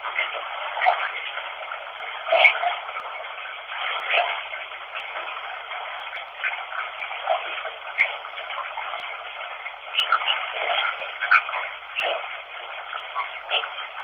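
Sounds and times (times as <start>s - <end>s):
running water hiss: 0.0s - 14.0s.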